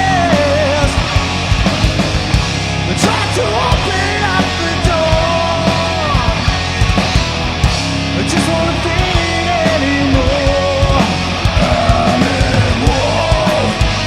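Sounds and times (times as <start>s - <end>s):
bass guitar: 0.0s - 14.0s
distorted electric guitar lead: 0.0s - 14.0s
steady drums: 0.0s - 14.0s.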